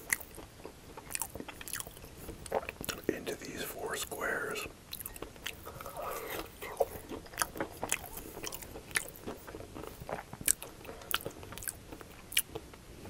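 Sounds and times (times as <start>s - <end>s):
crunchy food being chewed: 0.0s - 13.0s.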